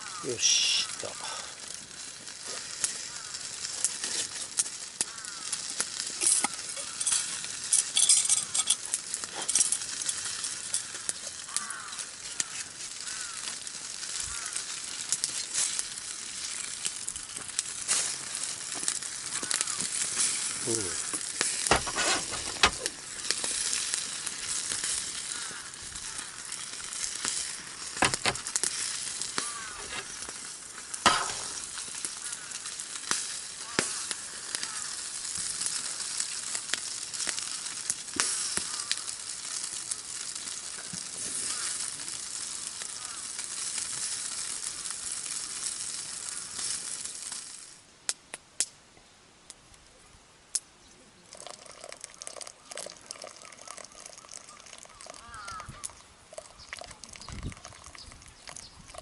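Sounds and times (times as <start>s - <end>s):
food sizzling in a pan: 0.0s - 47.9s, 51.3s - 59.0s.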